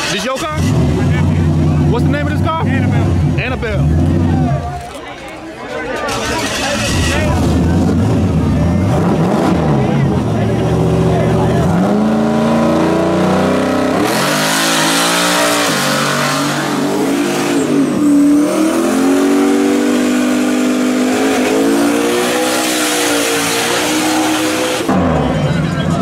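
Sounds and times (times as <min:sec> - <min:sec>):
car engine revving: 0:00.0 - 0:04.6, 0:06.1 - 0:26.0.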